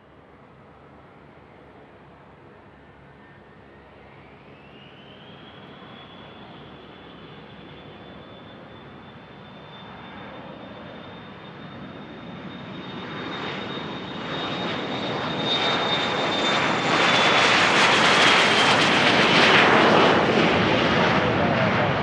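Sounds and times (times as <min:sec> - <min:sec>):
jet engines rushing past: 0:02.9 - 0:22.0.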